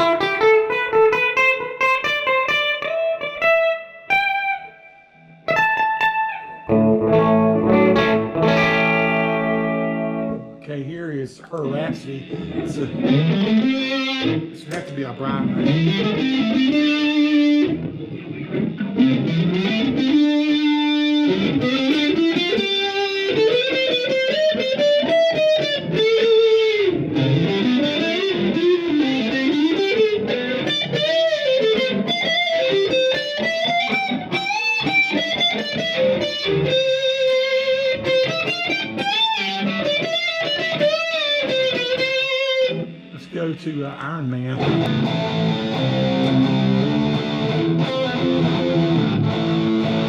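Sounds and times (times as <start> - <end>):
electric guitar lead with string bends: 0.0 - 10.6, 11.5 - 43.5, 44.3 - 50.0.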